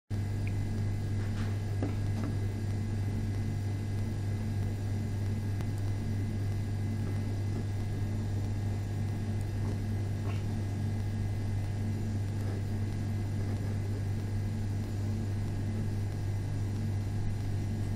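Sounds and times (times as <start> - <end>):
steady low hum: 0.1 - 17.9.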